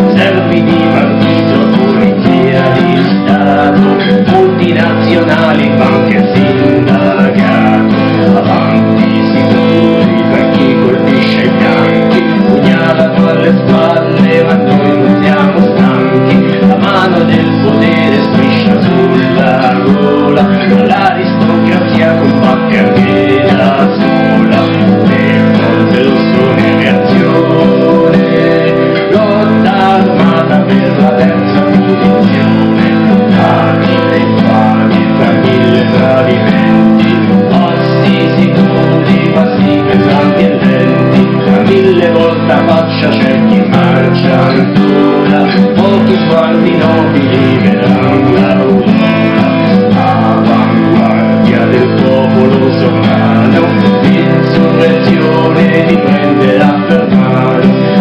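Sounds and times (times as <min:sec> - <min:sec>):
person singing: 0:00.0 - 0:58.0
strummed acoustic guitar: 0:00.0 - 0:58.0.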